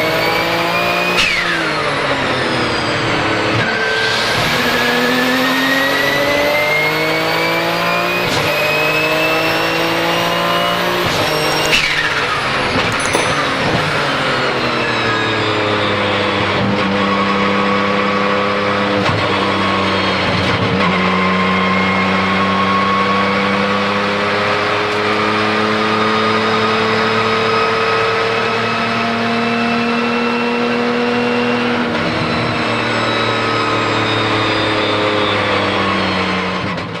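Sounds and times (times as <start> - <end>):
race car engine accelerating: 0.0 - 13.0, 13.6 - 37.0.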